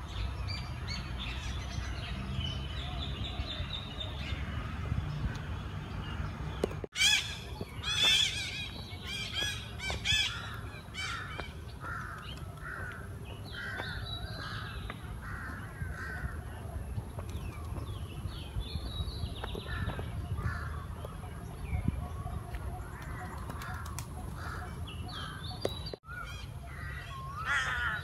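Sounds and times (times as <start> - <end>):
birds calling harshly: 0.0 - 28.0.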